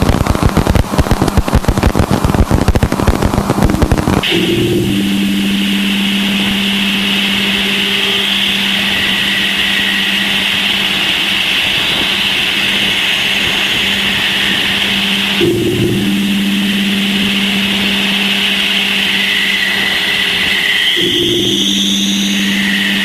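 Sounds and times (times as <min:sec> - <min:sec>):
low hum: 0:00.0 - 0:23.0
hiss: 0:00.1 - 0:23.0
faint steady tones: 0:01.6 - 0:23.0.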